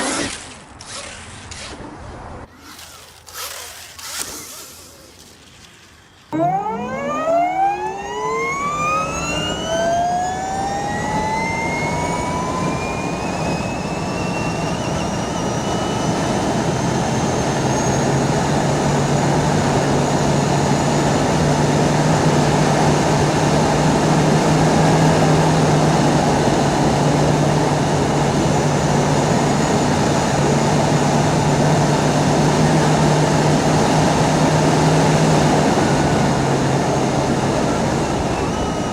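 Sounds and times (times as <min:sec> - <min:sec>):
electric motor whine: 0:02.7 - 0:38.9.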